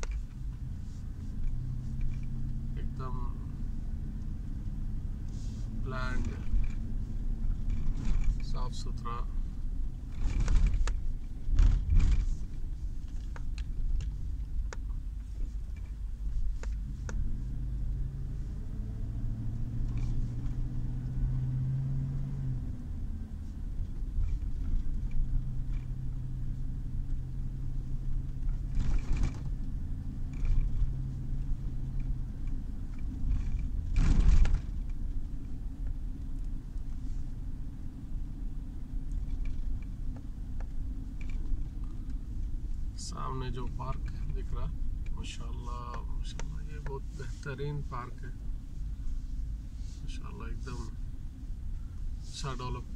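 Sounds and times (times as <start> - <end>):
car engine and tyres rumbling: 0.0 - 52.9.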